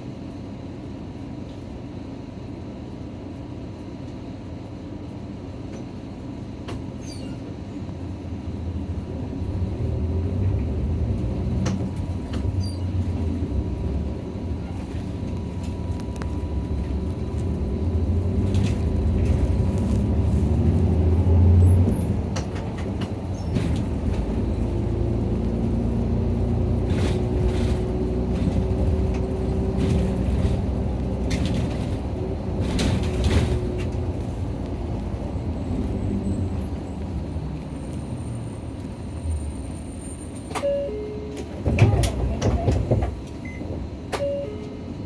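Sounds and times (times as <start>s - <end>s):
bus engine running: 0.0s - 45.0s
road noise: 6.0s - 45.0s.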